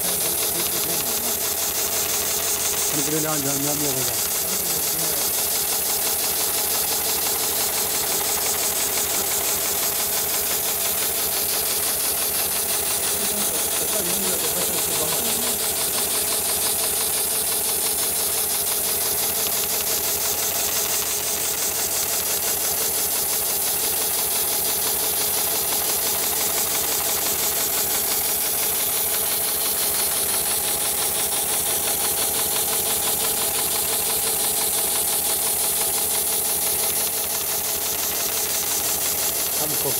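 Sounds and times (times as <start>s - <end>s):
stitching machine running: 0.0s - 39.9s.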